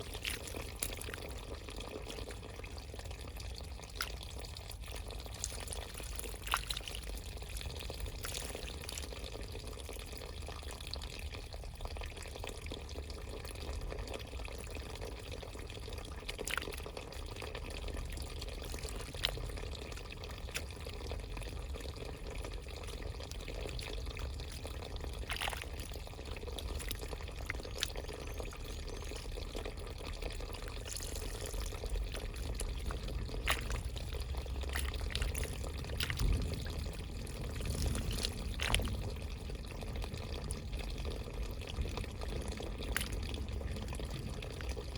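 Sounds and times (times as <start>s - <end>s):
water trickling and splashing: 0.0s - 44.9s.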